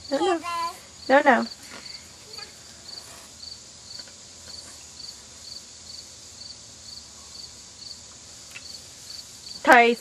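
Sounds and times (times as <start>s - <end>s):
cricket chirping: 0.0s - 10.0s
faint hiss: 0.0s - 10.0s.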